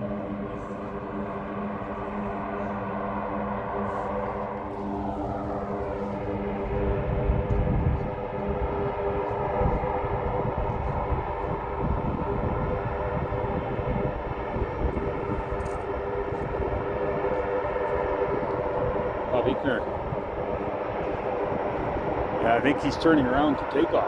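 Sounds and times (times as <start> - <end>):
aircraft engine whine: 0.0 - 24.0
low engine rumble: 0.0 - 24.0.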